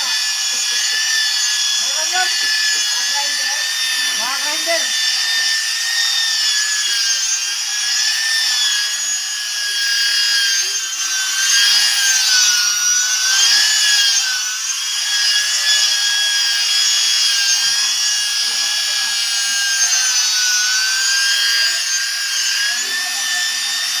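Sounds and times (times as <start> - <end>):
electric sander whining: 0.0 - 24.0.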